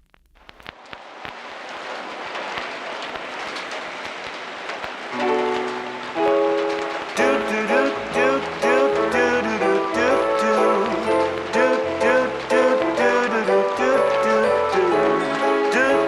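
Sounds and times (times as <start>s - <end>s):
raindrop clicks: 0.0s - 16.0s
steady rain: 0.1s - 16.0s.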